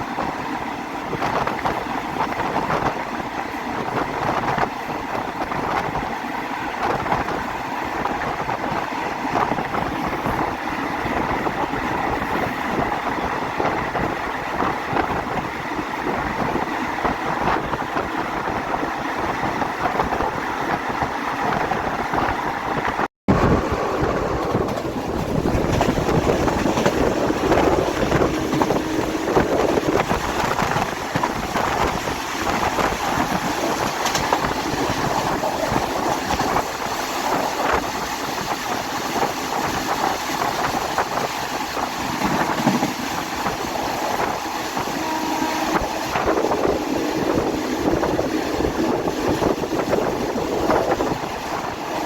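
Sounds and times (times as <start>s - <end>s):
train rumbling: 0.0s - 52.0s
wind buffeting microphone: 0.0s - 52.0s.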